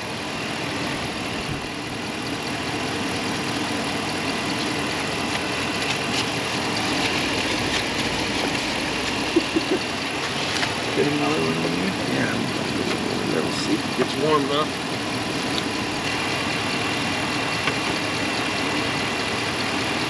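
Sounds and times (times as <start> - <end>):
pickup engine idling: 0.0 - 20.0.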